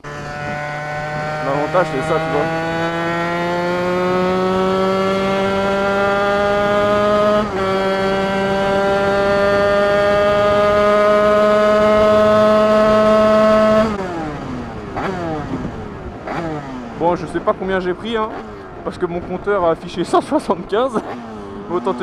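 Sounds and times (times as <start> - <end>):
two-stroke motorcycle engine revving: 0.0 - 22.0.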